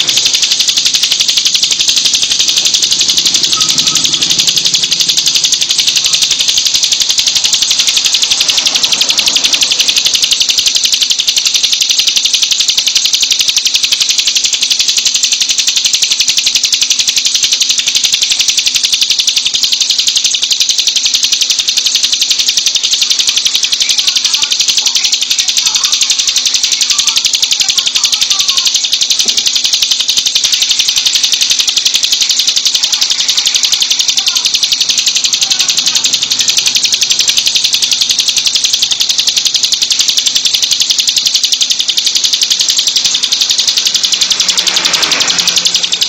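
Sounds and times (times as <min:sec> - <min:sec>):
bird singing buzzing trill: 0:00.0 - 0:15.2, 0:15.9 - 0:46.0.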